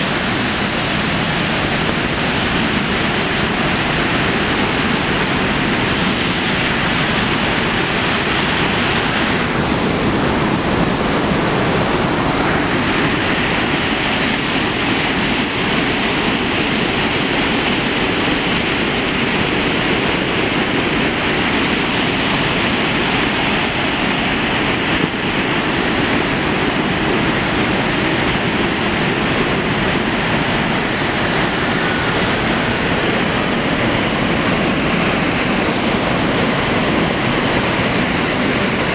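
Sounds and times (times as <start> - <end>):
river water rushing over falls: 0.0 - 38.9.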